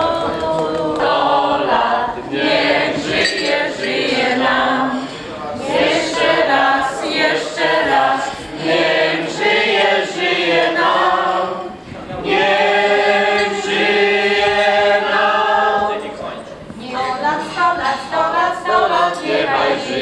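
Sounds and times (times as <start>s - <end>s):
group singing unaccompanied: 0.0s - 20.0s.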